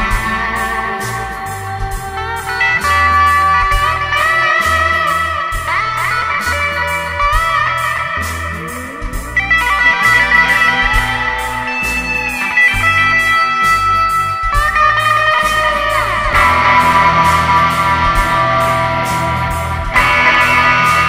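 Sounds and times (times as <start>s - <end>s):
guitar music with slides: 0.0s - 21.0s
low bass line: 0.0s - 21.0s.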